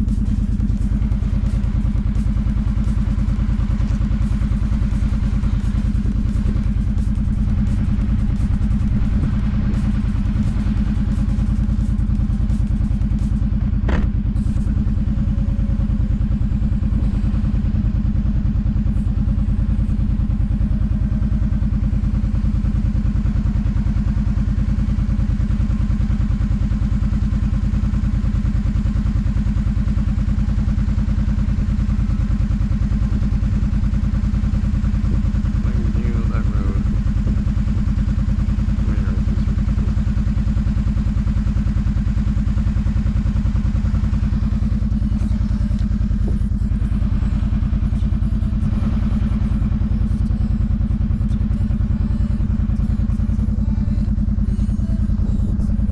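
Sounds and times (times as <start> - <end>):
atv engine running steadily: 0.0 - 55.9.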